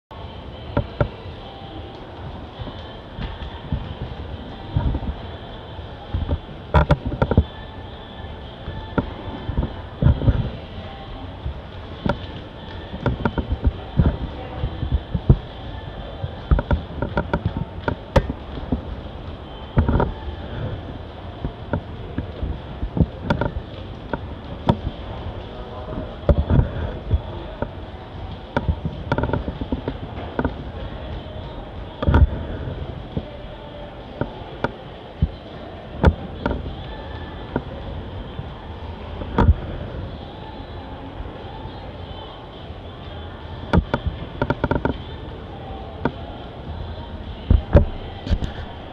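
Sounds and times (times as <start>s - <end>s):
background noise: 0.0s - 48.9s
steady background hum: 0.1s - 48.9s.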